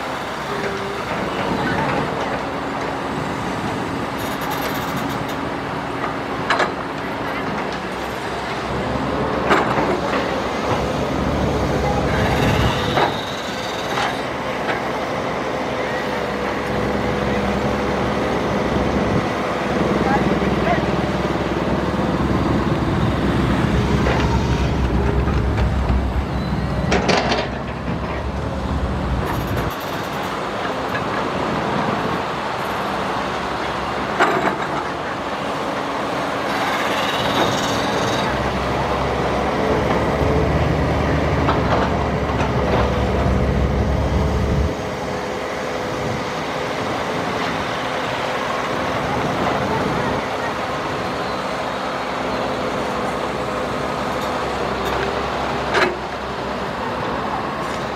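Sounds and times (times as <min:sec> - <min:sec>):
excavator diesel engine: 0:00.0 - 0:57.9.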